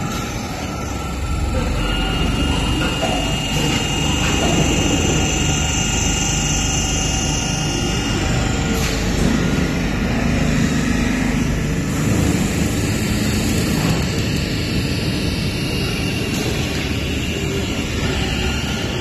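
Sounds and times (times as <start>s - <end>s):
parts washing machine running: 0.0s - 19.0s.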